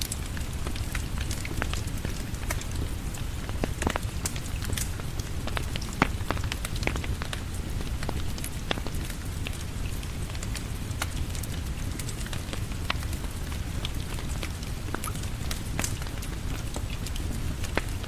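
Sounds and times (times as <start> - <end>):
fireplace crackling: 0.0 - 18.0
steady rain: 0.0 - 18.0.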